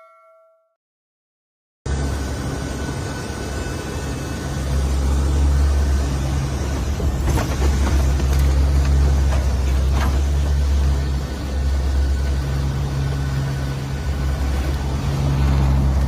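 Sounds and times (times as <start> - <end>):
propeller aircraft cabin drone: 1.9 - 16.0.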